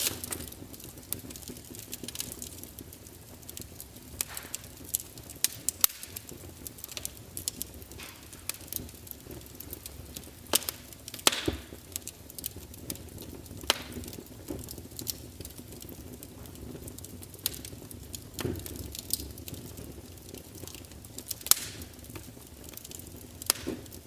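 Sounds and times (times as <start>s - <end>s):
sharp pops and snaps: 0.0s - 2.8s, 3.4s - 16.0s, 17.0s - 24.0s
wood fire crackling: 0.0s - 24.0s.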